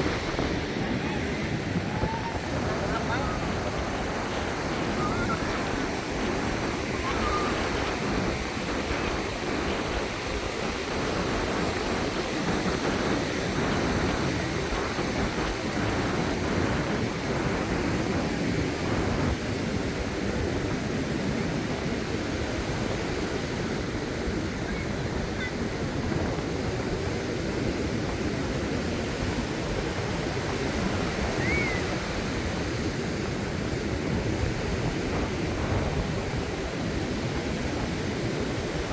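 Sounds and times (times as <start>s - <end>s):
small waves washing onto sand: 0.0s - 38.9s.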